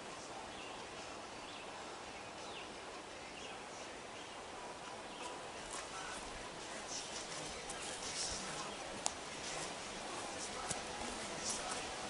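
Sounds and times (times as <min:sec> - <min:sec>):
soft forest hiss: 0:00.0 - 0:12.0.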